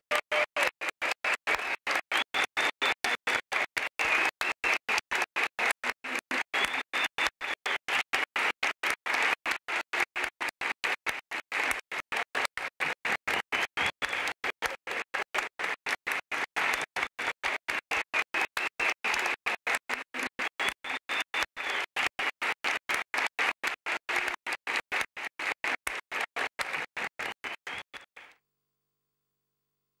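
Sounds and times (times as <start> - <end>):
audience applause: 0.0 - 28.3.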